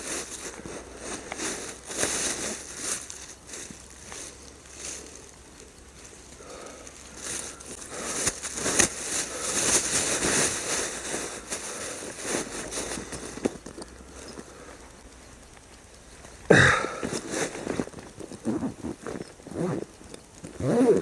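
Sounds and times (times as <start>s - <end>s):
footsteps through dry grass: 0.0s - 21.0s.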